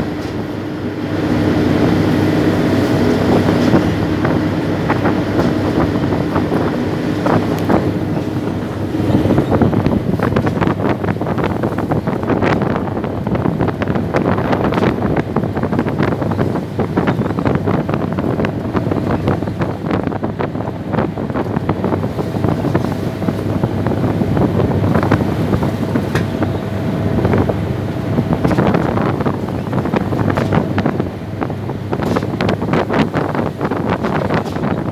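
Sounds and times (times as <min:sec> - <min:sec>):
boat engine running: 0:00.0 - 0:34.9
wind buffeting microphone: 0:00.0 - 0:34.9.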